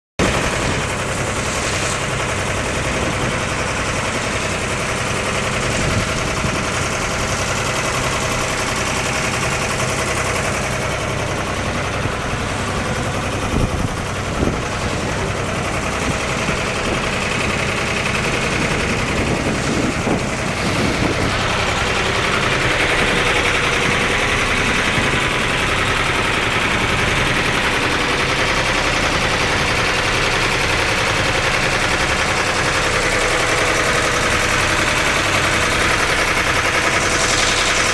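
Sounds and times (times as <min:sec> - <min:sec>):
boat engine running: 0:00.2 - 0:37.9.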